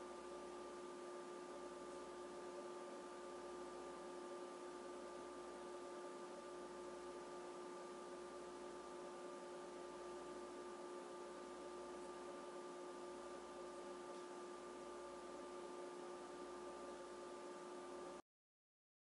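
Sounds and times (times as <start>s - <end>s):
faint hum of held tones: 0.0s - 18.2s.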